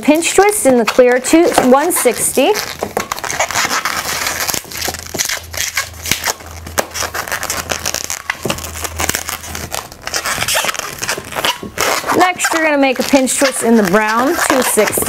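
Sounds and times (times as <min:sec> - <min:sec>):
balloons rubbing and crinkling: 0:00.0 - 0:15.0.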